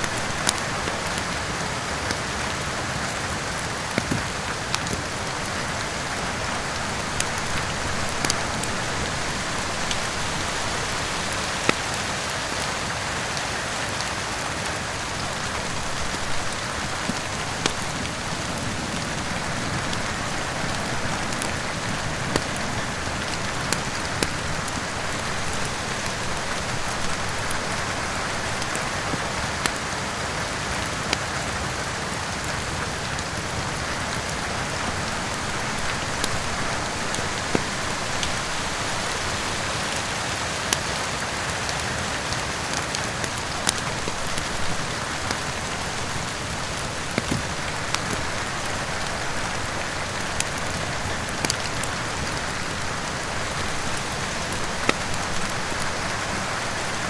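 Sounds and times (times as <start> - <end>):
steady rain hissing: 0.0 - 57.0
wood fire crackling and popping: 0.0 - 57.0.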